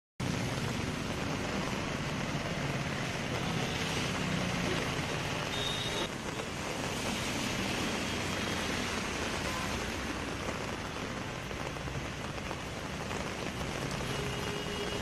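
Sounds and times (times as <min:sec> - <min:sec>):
heavy rain on a flooded road: 0:00.2 - 0:15.0.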